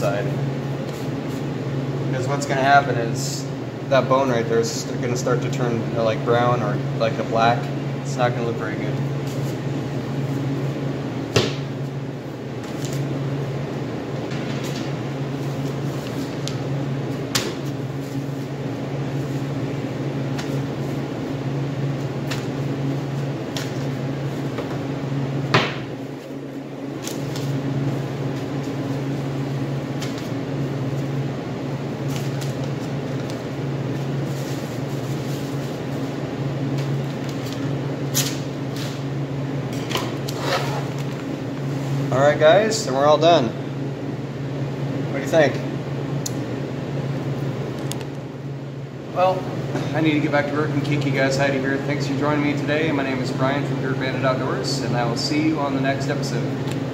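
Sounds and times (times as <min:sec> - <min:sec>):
low machine hum: 0:00.0 - 0:56.9.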